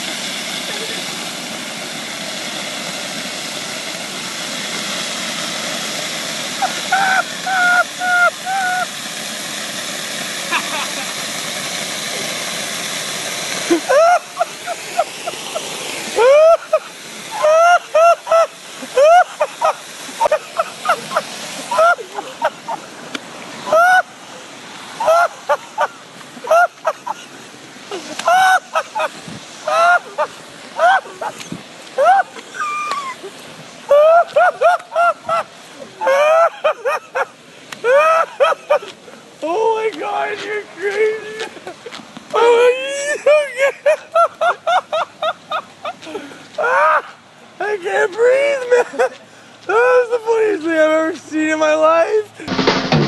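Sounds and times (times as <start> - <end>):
fire hydrant water rushing: 0.0 - 53.0.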